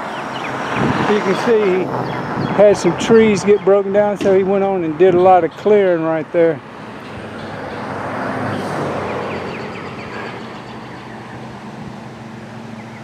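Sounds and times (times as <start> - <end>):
road vehicle passing: 0.0 - 13.0.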